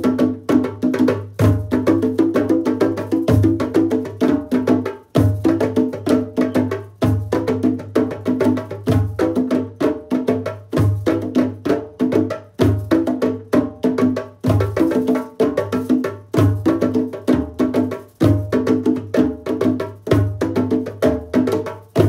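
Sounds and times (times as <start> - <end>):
hand drums playing: 0.0 - 22.0.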